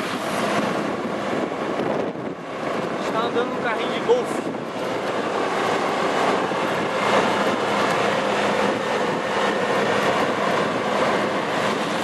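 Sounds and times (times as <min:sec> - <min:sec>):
golf cart driving: 0:00.0 - 0:12.0.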